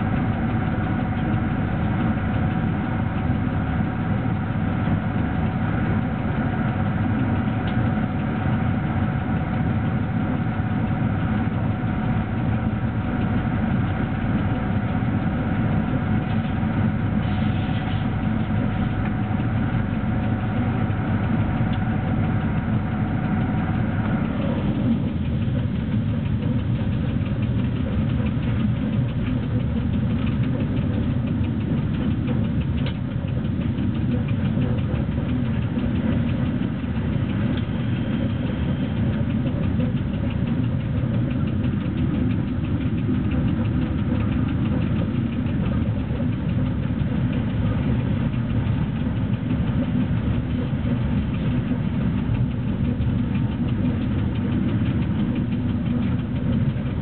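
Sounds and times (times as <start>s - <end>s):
continuous fine rattle: 0.0s - 57.0s
locomotive cab running rumble: 0.0s - 57.0s.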